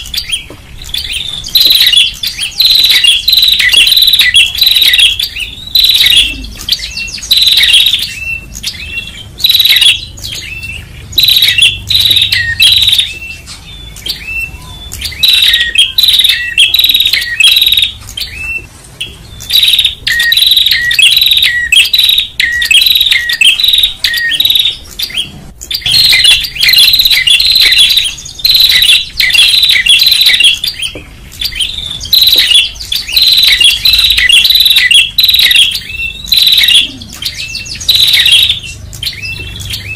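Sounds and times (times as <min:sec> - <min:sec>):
warbler chattering: 0:00.0 - 0:39.9.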